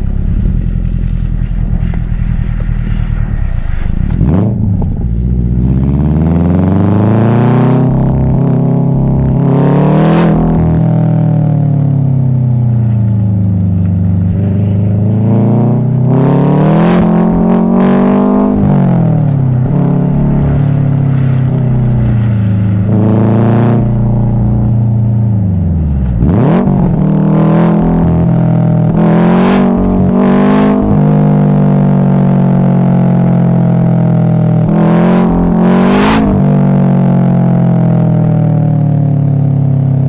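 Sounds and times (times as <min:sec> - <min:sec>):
car engine pulling through gears: 0:00.0 - 0:40.0.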